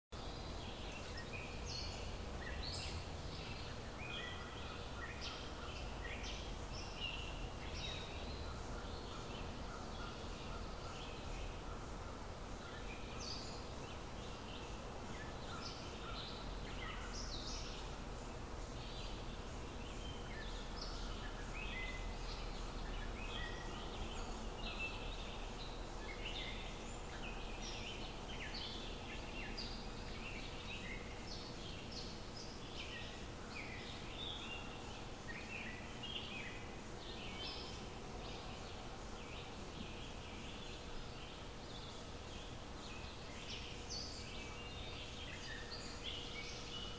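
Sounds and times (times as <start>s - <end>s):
birds chirping and singing: 0.2s - 46.9s.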